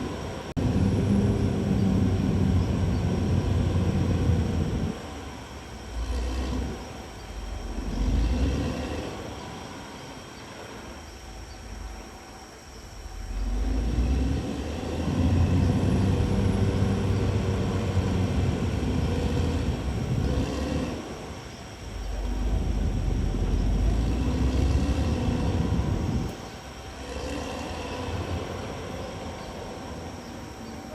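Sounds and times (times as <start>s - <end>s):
bulldozer diesel engine working: 0.0s - 30.9s.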